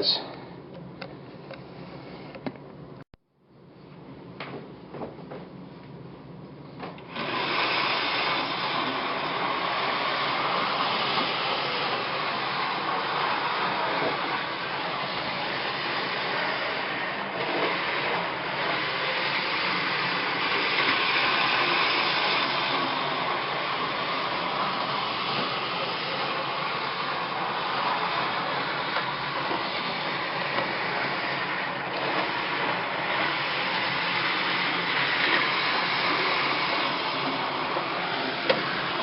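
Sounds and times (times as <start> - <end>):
model train running on track: 7.1 - 39.0.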